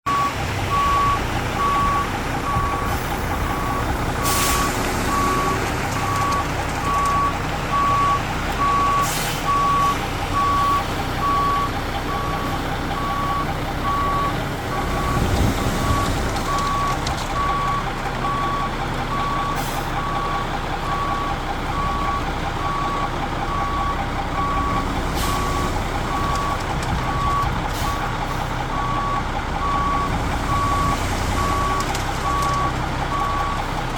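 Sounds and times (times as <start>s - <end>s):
backup alarm beeping: 0.1s - 28.0s
diesel engine running: 0.1s - 33.9s.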